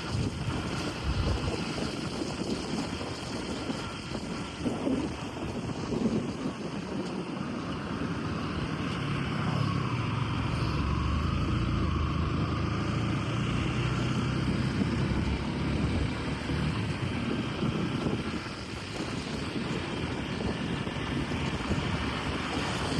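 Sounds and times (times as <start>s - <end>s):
vehicle engine running: 0.0s - 22.9s.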